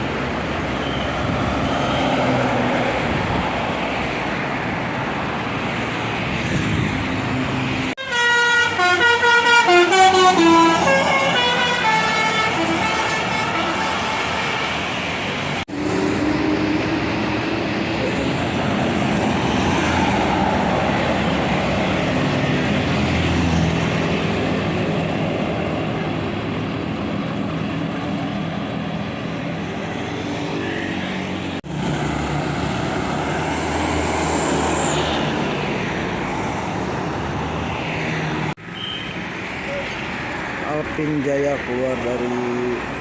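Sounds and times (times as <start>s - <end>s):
buses driving past: 0.0s - 43.0s
road traffic noise: 0.0s - 43.0s.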